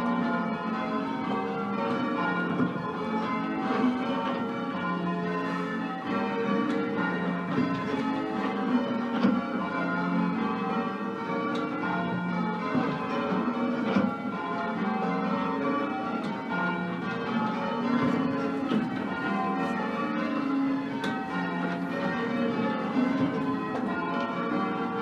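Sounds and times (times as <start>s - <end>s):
church bells ringing: 0.0s - 25.0s.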